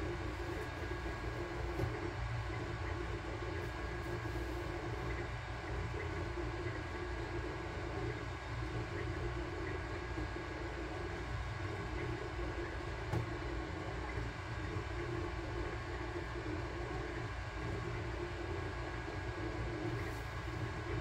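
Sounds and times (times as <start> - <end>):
cooling fans whirring: 0.0 - 21.0.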